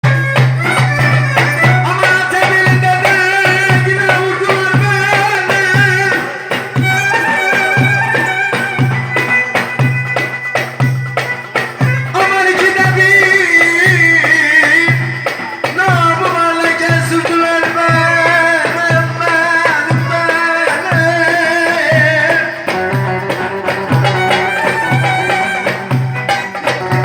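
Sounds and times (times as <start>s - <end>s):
folk melody with pulsing beat: 0.0s - 27.0s
percussion: 0.0s - 27.0s.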